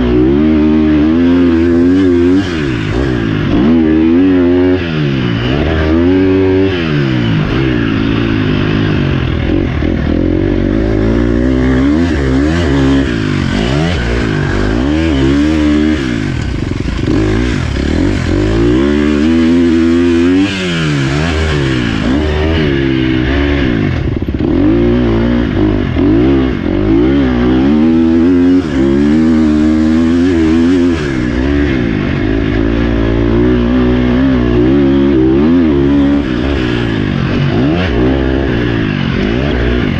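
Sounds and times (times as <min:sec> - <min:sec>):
dirt bike engine: 0:00.0 - 0:39.9.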